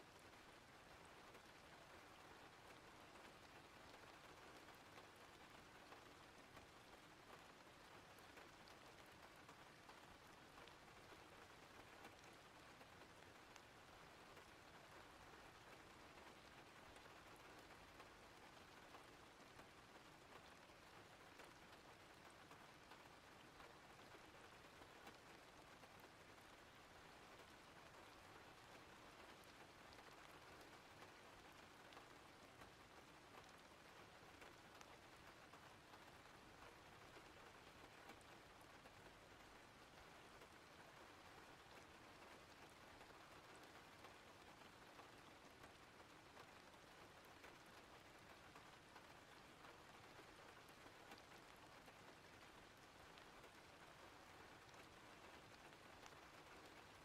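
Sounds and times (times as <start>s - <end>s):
rain hiss: 0.0s - 57.0s
raindrop ticks: 0.1s - 57.0s.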